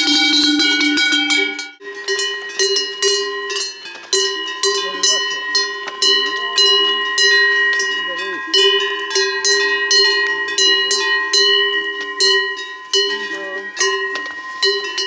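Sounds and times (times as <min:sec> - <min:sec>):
cowbells clanging: 0:00.0 - 0:15.0.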